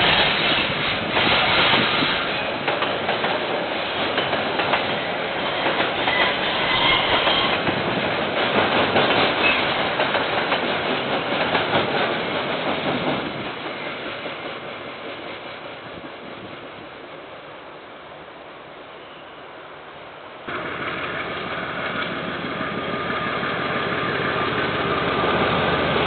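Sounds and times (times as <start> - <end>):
train wheels clacking on rails: 0.0 - 16.4, 20.5 - 26.0.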